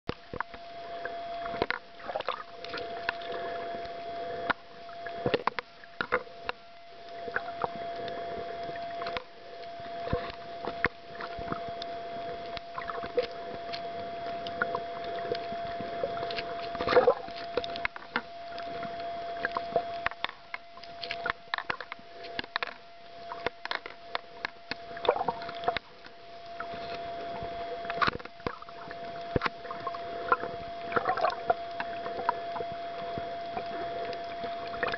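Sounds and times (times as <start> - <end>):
steady underwater hum: 0.1 - 34.9
underwater clicks crackles and pops: 0.1 - 34.9.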